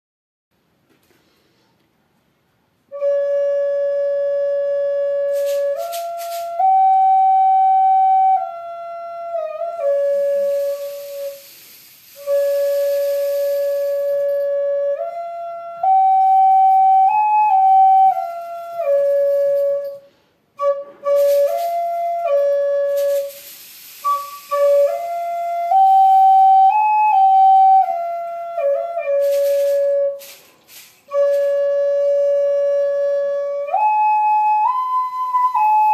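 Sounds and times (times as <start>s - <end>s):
flute playing slow melody: 2.9s - 30.4s, 31.0s - 35.9s
steady hiss: 5.0s - 35.9s.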